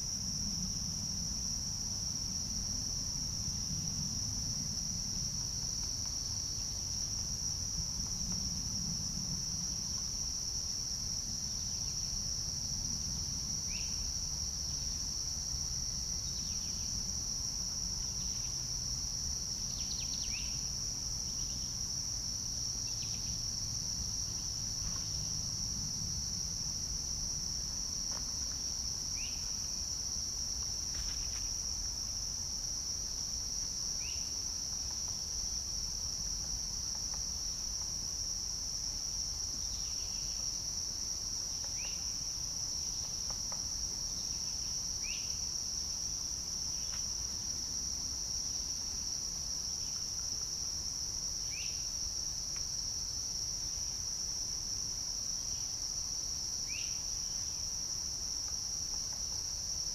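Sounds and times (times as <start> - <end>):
crickets droning: 0.0 - 59.9.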